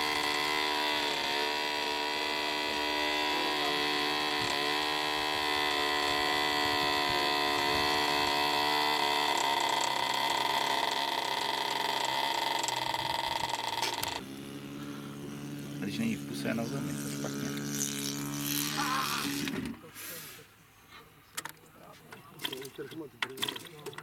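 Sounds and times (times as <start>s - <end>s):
model airplane engine buzzing: 0.0s - 19.9s.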